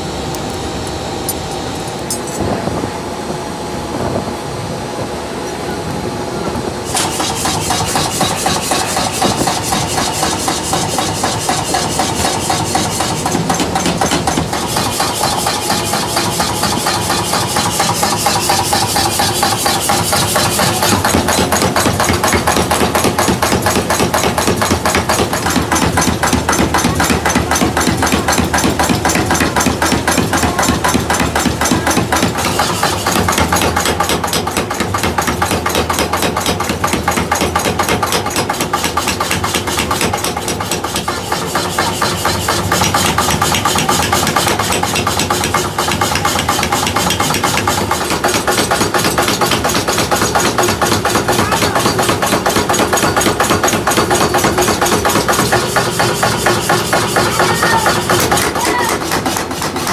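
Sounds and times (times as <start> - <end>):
machinery with regular knocking: 0.0 - 59.9.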